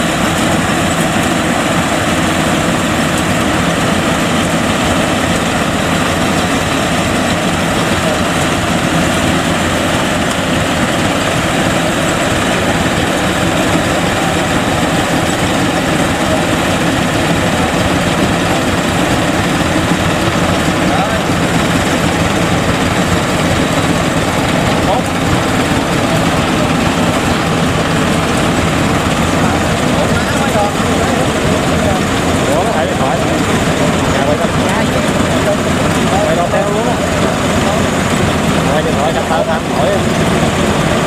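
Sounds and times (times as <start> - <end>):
combine harvester droning: 0.0 - 41.0.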